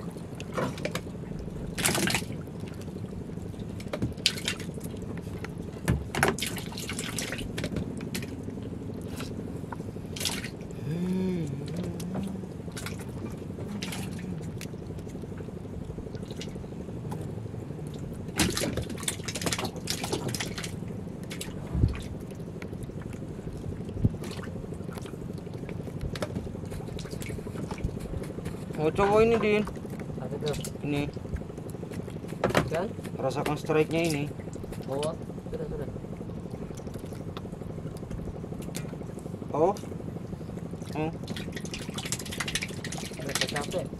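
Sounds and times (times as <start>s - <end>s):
faint steady hum: 0.0s - 43.9s
water lapping against boat: 0.0s - 43.9s
water splashes: 0.0s - 43.9s.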